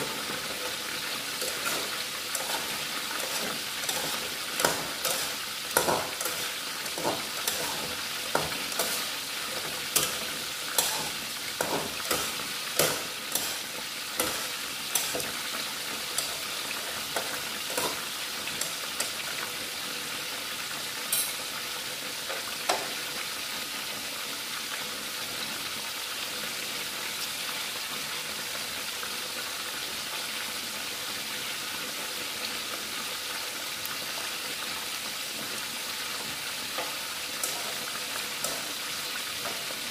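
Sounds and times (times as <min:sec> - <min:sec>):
hot oil sizzling: 0:00.0 - 0:39.9.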